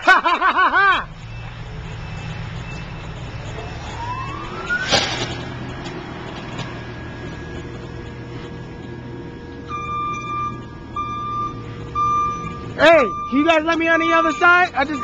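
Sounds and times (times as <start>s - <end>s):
diesel engine low rumble: 0.0s - 15.0s
faint rising siren tone: 1.0s - 15.0s.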